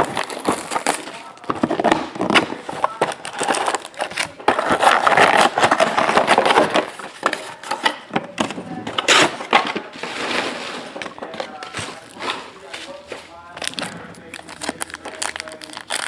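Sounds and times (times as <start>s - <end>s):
foil pack crinkling: 0.0s - 7.6s, 8.6s - 16.0s.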